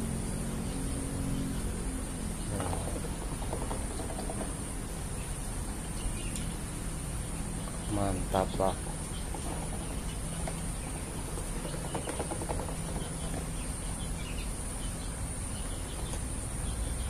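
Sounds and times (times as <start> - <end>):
insects chirring: 0.0 - 17.0
low hum: 0.0 - 17.0.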